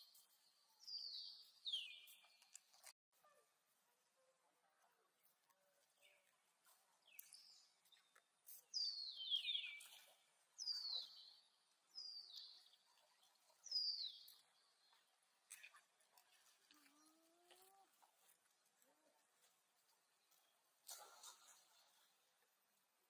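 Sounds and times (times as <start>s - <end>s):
faint chirps and clicks: 0.0s - 3.4s, 4.8s - 22.1s.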